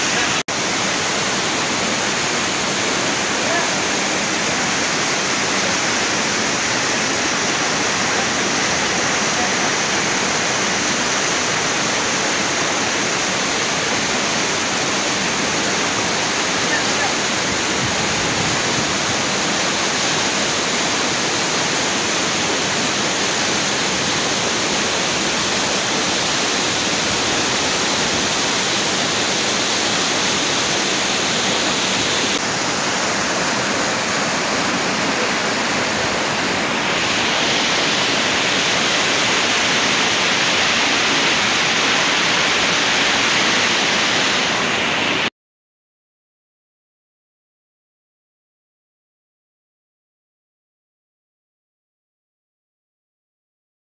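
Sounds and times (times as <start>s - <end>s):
waterfall rushing: 0.0s - 45.3s.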